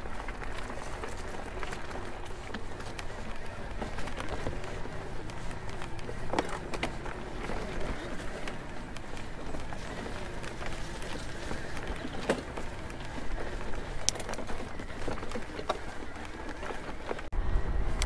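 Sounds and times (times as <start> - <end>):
bike tyres crunching on stones: 0.0 - 17.3.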